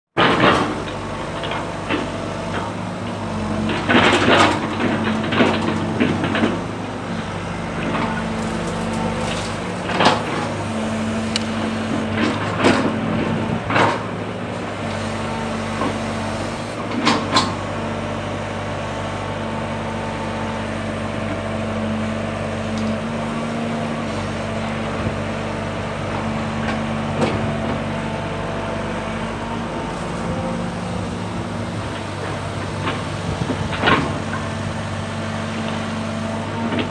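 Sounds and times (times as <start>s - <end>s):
excavator diesel engine: 0.2s - 36.9s.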